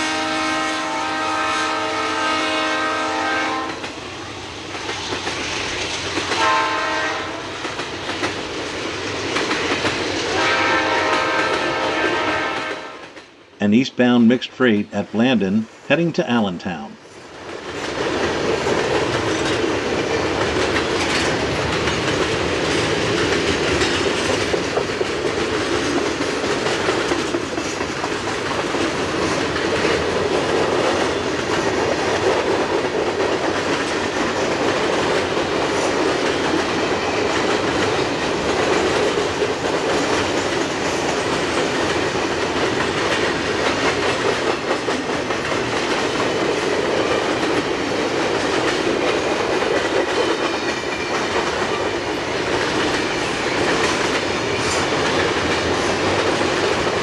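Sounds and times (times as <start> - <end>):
rumble of steel wheels on rail: 0.0 - 13.5, 17.0 - 57.0
train wheels clacking on rail joints: 3.6 - 13.3, 17.4 - 57.0.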